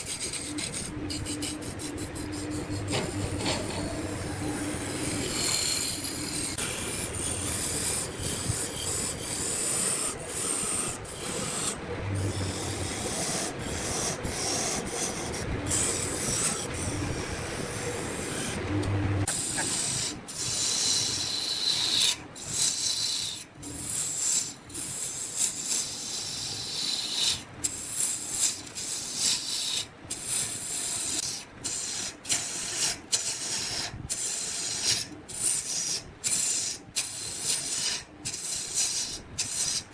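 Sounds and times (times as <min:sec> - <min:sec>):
tool scraping wood on lathe: 0:00.0 - 0:39.9.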